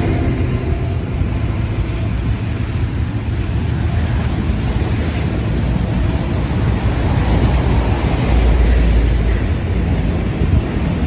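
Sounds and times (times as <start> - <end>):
heavy low rumble: 0.0 - 11.0
steel wheels on rails: 0.0 - 11.0.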